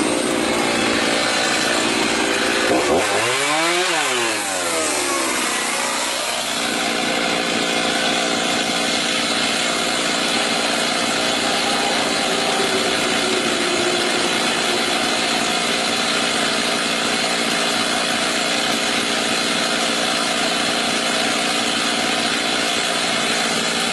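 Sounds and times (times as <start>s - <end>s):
chainsaw engine idling: 0.0s - 23.9s.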